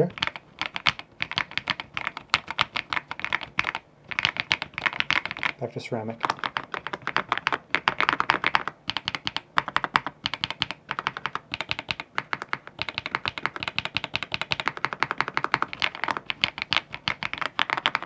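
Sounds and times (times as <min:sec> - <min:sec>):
mechanical keyboard typing: 0:00.0 - 0:18.0.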